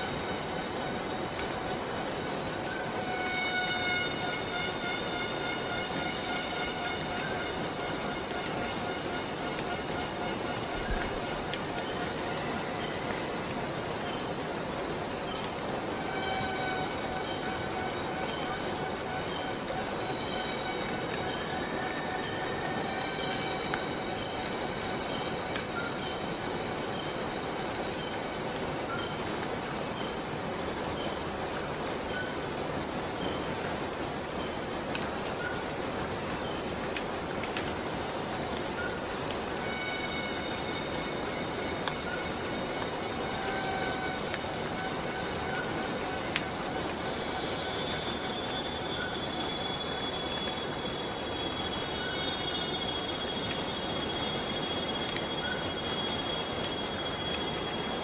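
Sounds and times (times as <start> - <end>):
faint insect chirp: 0.0 - 58.0
insect chorus drone: 0.0 - 58.0.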